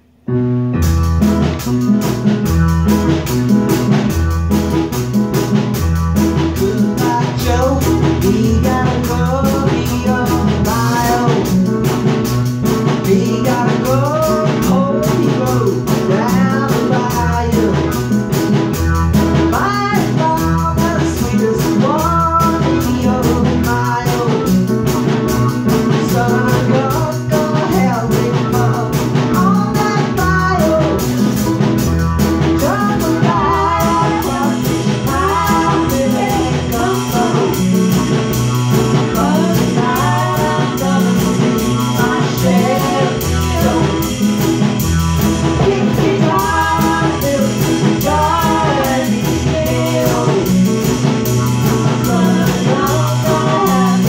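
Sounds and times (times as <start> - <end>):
drum kit beat: 0.0 - 54.0
electronic keyboards: 0.0 - 54.0
person singing: 5.0 - 54.0.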